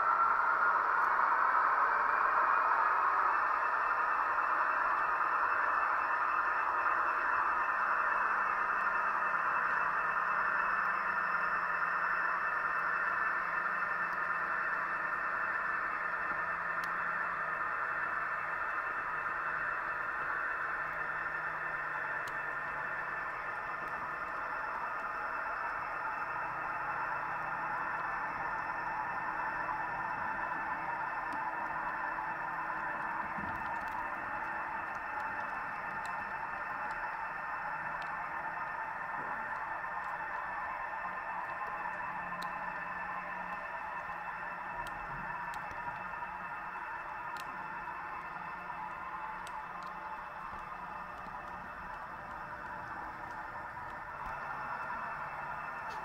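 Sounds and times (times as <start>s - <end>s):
locomotive motor whine: 0.0s - 56.0s
model train motors whirring: 0.0s - 56.0s.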